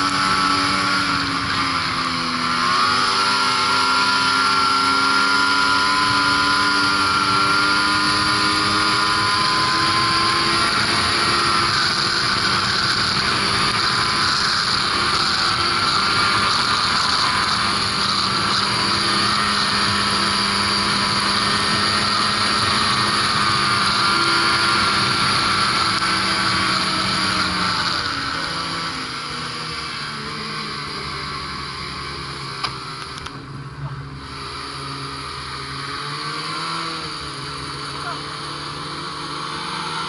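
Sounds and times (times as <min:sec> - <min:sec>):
snowmobile engine running: 0:00.0 - 0:40.0.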